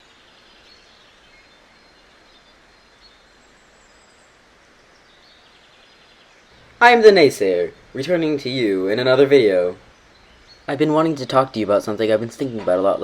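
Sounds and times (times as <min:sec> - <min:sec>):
distant bird chirps: 0:00.0 - 0:13.0
steady outdoor hiss: 0:00.0 - 0:13.0.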